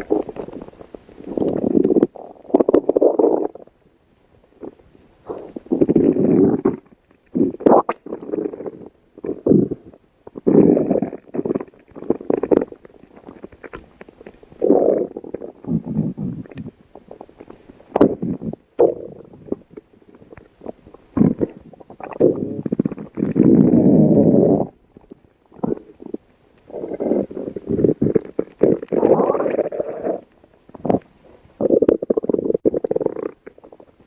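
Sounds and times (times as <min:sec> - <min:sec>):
stomach growling: 0:00.0 - 0:03.8, 0:04.6 - 0:34.0.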